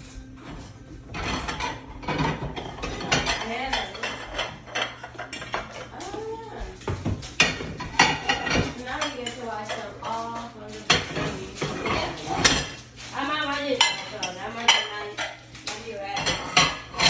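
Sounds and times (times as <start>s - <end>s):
dishes and cutlery clinking: 0.0s - 17.0s.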